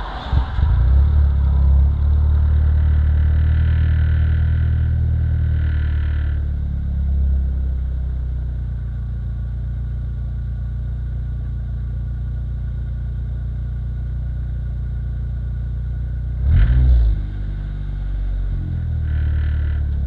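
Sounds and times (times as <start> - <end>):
car engine and exhaust running: 0.0 - 20.0.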